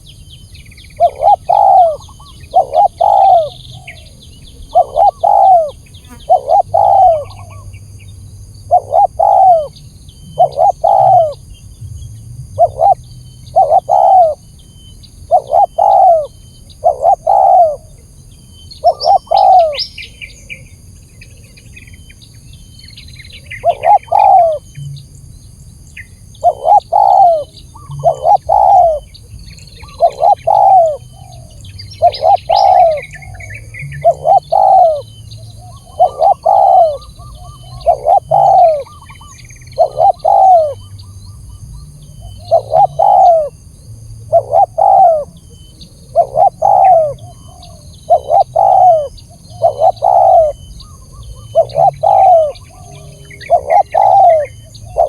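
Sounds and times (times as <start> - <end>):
dove cooing: 0.9 - 7.7, 8.7 - 11.4, 12.6 - 14.4, 15.3 - 18.0, 18.8 - 19.9, 23.5 - 24.7, 26.4 - 43.6, 44.2 - 55.0.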